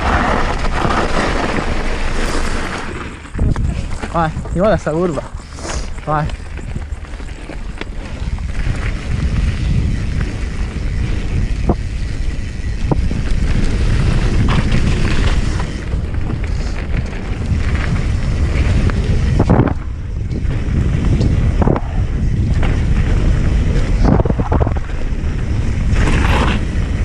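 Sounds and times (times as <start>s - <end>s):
bike knocks and rattles: 0.0s - 27.0s
tyre noise on gravel: 0.0s - 27.0s
wind rushing over microphone: 0.0s - 27.0s.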